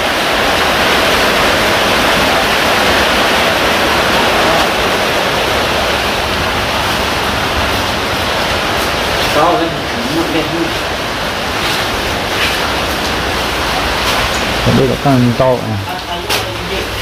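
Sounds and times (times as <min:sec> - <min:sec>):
loud rush of water: 0:00.0 - 0:17.0.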